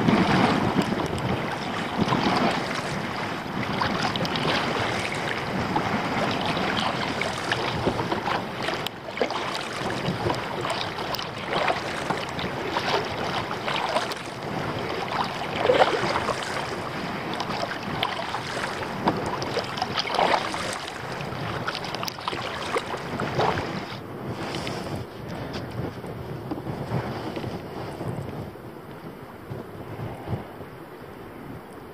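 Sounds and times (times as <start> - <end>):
kayak paddle splashing: 0.0 - 30.7
wind noise on microphone: 0.0 - 31.9.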